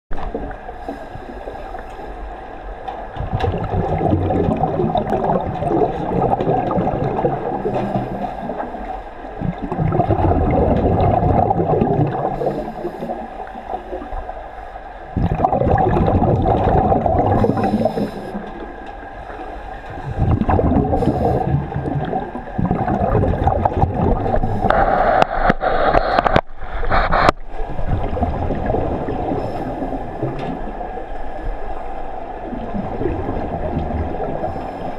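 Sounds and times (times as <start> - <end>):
underwater regulator bubbling: 3.2 - 14.3, 15.1 - 18.8, 19.9 - 30.8, 32.4 - 34.9.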